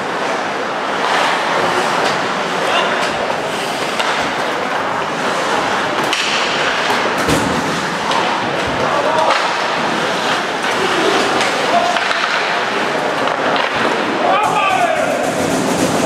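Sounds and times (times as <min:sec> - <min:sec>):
hockey sticks clacking: 0:00.0 - 0:16.0
skates scraping ice: 0:00.0 - 0:16.0.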